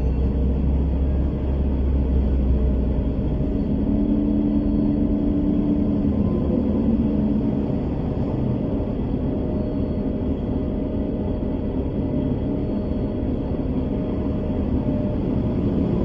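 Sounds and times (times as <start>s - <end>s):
bus engine and road rumble: 0.0s - 16.0s
steady hum: 0.0s - 16.0s.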